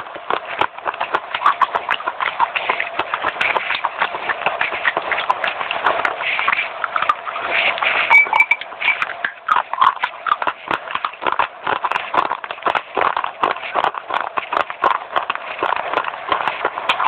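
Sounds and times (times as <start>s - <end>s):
crunching and chewing dry clay: 0.0s - 17.0s.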